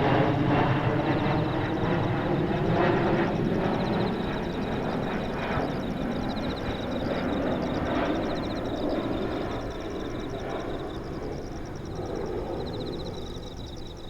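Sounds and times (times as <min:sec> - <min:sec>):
insects chirping: 0:00.0 - 0:14.0
jet airliner passing overhead: 0:00.0 - 0:14.0.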